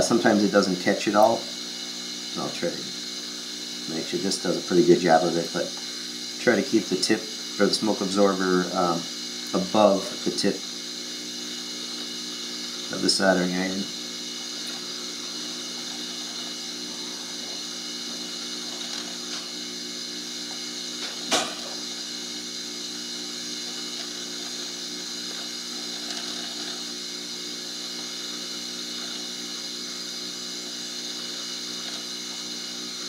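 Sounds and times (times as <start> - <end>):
fan humming with high whine: 0.0 - 33.0.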